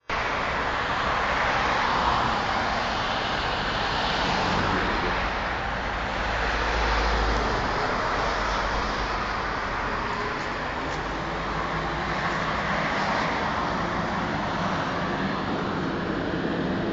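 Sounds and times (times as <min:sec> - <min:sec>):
road vehicles passing: 0:00.1 - 0:16.9.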